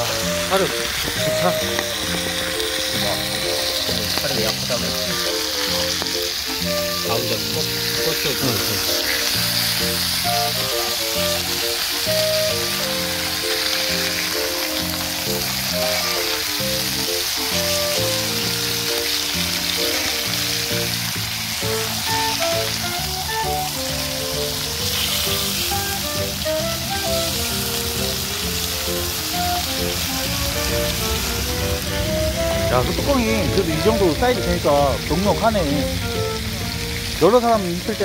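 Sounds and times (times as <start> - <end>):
background music simple melody: 0.0 - 38.0
pork frying with sizzling hiss: 0.0 - 38.0.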